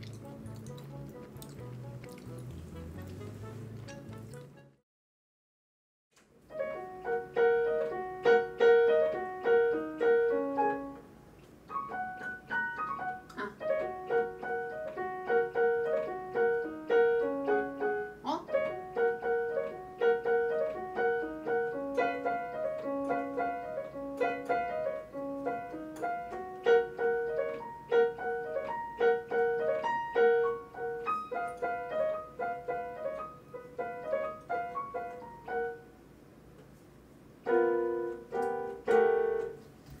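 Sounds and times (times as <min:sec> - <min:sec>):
keyboard piano melody: 0:00.0 - 0:04.8, 0:06.4 - 0:40.0
loud piano chords: 0:00.0 - 0:04.8, 0:06.4 - 0:36.2, 0:37.2 - 0:39.7.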